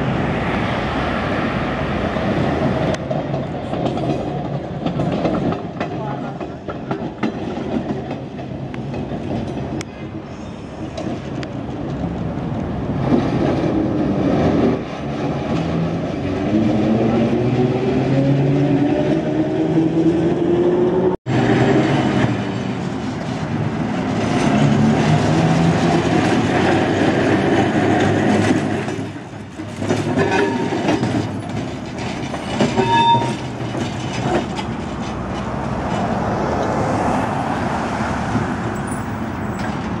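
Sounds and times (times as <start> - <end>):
streetcar motor humming: 0.0 - 40.0
wheels clattering over rail joints: 1.4 - 20.3, 21.3 - 40.0.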